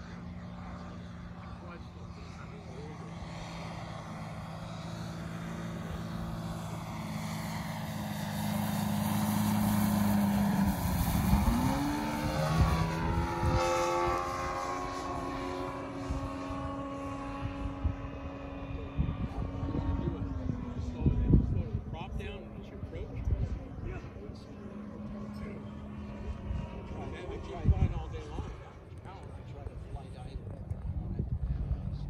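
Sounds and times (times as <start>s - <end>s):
model plane engine and propeller: 0.0s - 32.0s.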